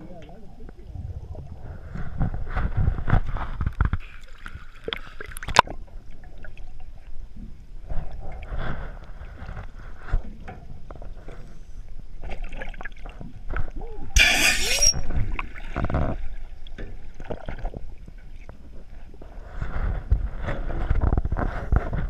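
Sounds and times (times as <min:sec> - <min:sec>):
water sloshing and gurgling: 0:00.0 - 0:22.0.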